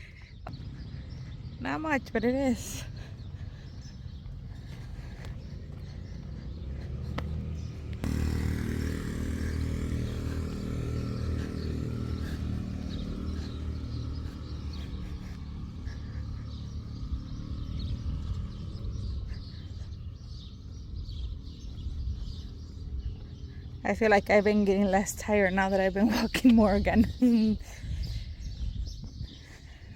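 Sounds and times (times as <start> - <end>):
small birds chirping: 0.0 - 29.9
vehicle engine running: 0.5 - 25.4.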